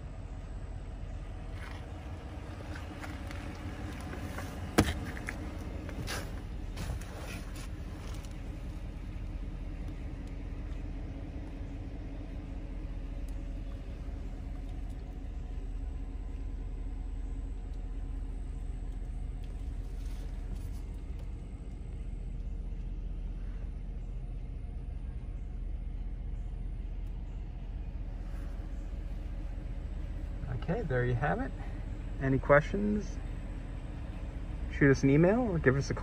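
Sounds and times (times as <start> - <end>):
pickup engine idling: 0.0 - 36.0.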